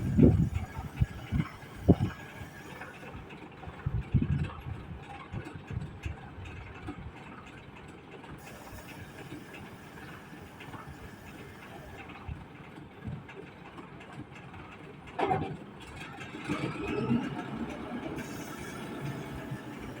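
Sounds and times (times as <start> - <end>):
wheel loader running: 0.0 - 20.0.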